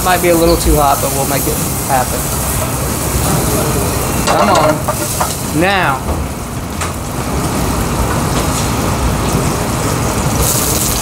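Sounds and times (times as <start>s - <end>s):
vegetables sizzling in a pan: 0.0s - 11.0s
butter sizzling in a pan: 0.1s - 6.0s, 6.6s - 11.0s.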